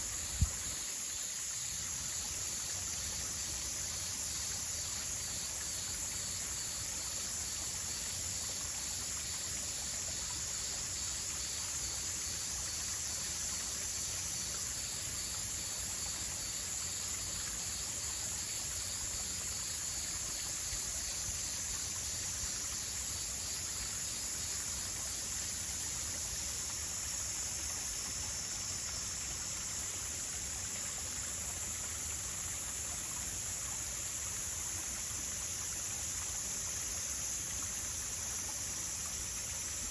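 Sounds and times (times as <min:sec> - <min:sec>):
high-pitched insect chorus: 0:00.0 - 0:39.9
stream water running: 0:00.0 - 0:39.9.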